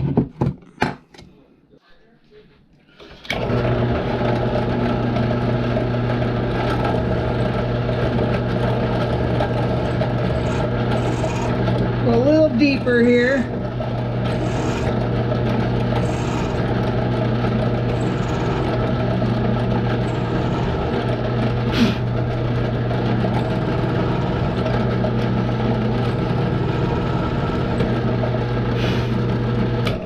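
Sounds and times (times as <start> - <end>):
electric drill boring into metal: 3.3 - 30.0.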